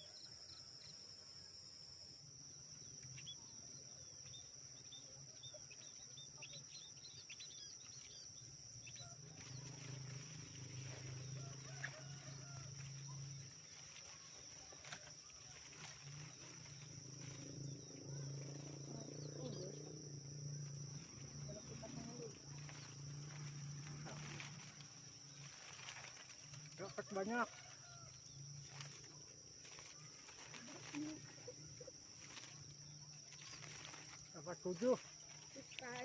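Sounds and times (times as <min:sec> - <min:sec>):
high-pitched insect drone: 0:00.0 - 0:36.0
small birds chirping: 0:02.8 - 0:36.0.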